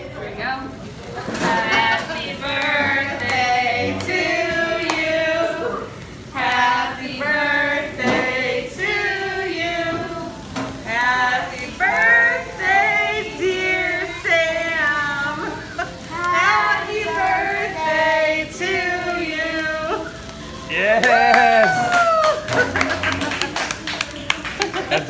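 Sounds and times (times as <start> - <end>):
group singing together: 1.2 - 23.9.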